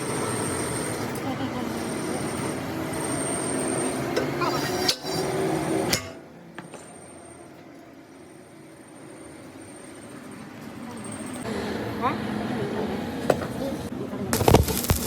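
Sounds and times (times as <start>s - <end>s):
workshop machine noise: 0.0s - 15.0s.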